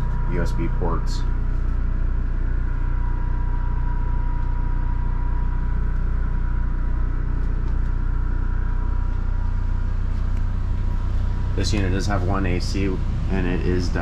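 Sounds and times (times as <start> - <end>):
air conditioner humming: 0.0 - 14.0
faint steady whine: 0.0 - 14.0.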